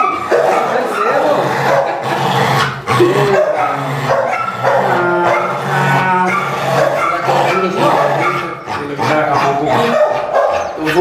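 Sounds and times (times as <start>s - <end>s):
dog howling and whining: 0.0s - 2.0s, 2.8s - 11.0s
dog barking: 0.0s - 2.1s, 3.2s - 11.0s.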